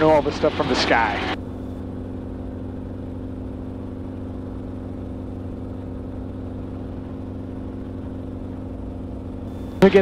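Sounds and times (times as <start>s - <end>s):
helicopter engine and rotor drone: 0.0s - 10.0s.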